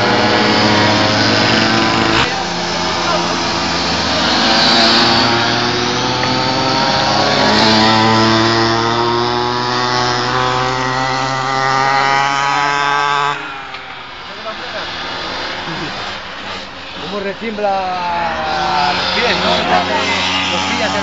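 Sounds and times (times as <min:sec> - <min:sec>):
pocket bike engines buzzing: 0:00.0 - 0:21.0.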